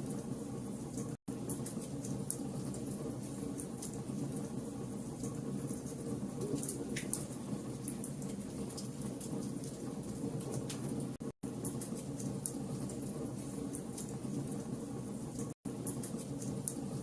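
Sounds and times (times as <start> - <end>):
fire crackling and rumbling: 0.0 - 17.0.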